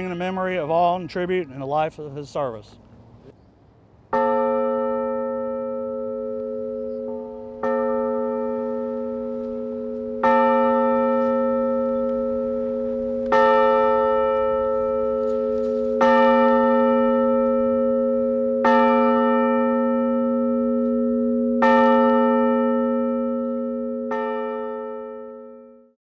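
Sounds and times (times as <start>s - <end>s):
large bell tolling: 4.1s - 25.8s.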